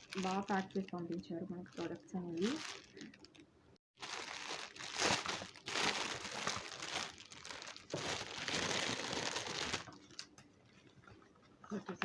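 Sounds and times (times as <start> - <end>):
packaging crinkling and rustling: 0.0 - 3.4, 4.0 - 10.3.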